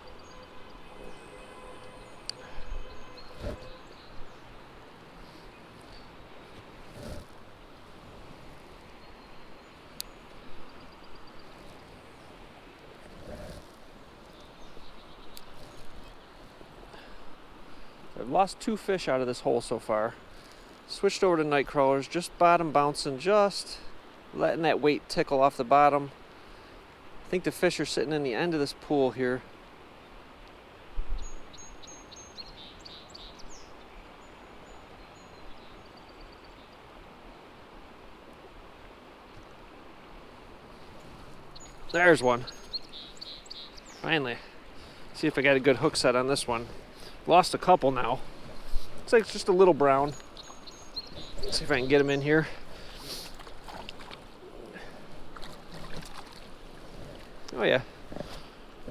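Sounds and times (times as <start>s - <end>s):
songbirds singing: 0.0s - 7.8s, 8.7s - 26.0s, 29.9s - 37.0s, 40.7s - 58.9s
stream water flowing: 0.0s - 58.9s.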